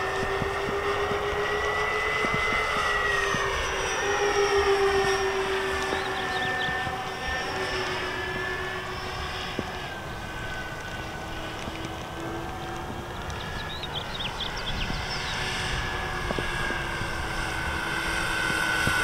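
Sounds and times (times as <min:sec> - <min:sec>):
model plane motors whining: 0:00.0 - 0:19.0.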